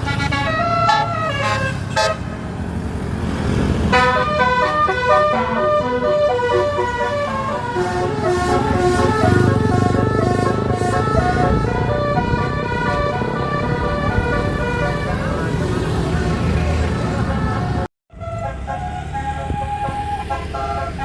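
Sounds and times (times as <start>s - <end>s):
musical air horn: 0.0s - 2.3s, 3.9s - 15.5s, 17.6s - 21.0s
engine rumble: 0.0s - 21.0s.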